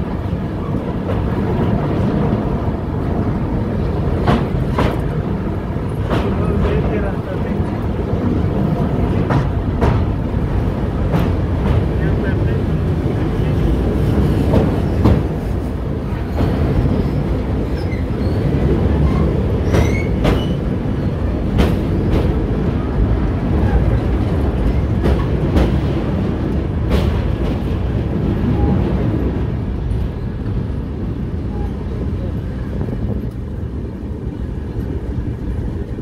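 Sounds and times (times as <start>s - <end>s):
train wheels rumbling on rails: 0.0s - 36.0s
wheels clacking over rail joints: 0.2s - 30.5s.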